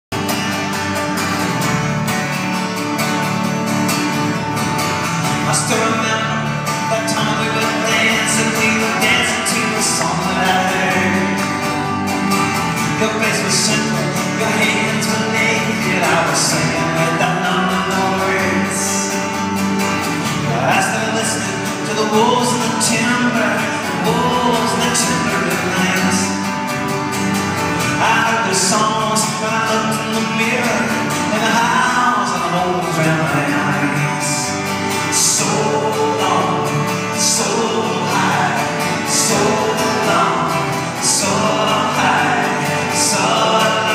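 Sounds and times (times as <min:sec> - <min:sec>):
electric guitar: 0:00.1 - 0:43.9
strummed acoustic guitar: 0:00.1 - 0:43.9
upright bass: 0:00.1 - 0:43.9
man singing: 0:05.3 - 0:12.0, 0:12.7 - 0:19.4, 0:20.3 - 0:26.6, 0:27.8 - 0:43.9.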